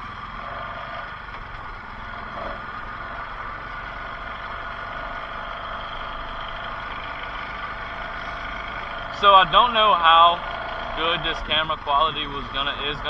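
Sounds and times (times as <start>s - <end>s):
atv engine running at low revs: 0.0s - 13.0s.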